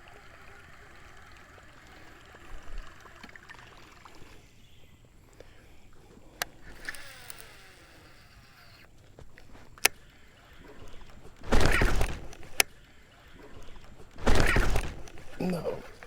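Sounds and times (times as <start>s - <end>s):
fish splashing at lure: 0.0s - 16.0s
sharp clicks: 0.0s - 16.0s.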